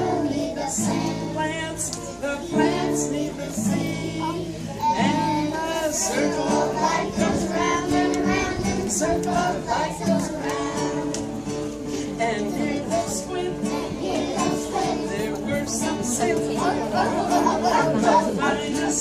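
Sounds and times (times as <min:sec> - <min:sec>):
acoustic guitar: 0:00.0 - 0:19.0
children singing: 0:00.0 - 0:19.0.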